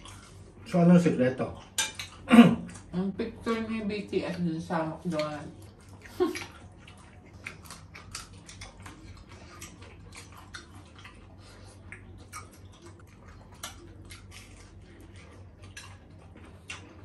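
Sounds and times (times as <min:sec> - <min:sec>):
people chewing: 0:00.0 - 0:17.0.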